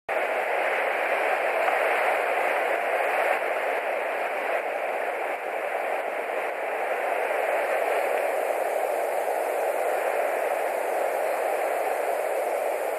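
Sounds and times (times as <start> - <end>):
steady rushing hiss: 0.1 - 12.9.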